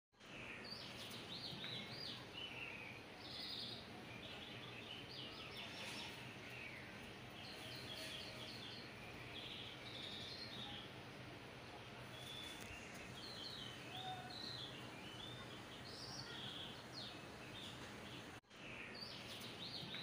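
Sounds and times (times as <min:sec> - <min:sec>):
birds chirping and trilling: 0:00.2 - 0:20.0.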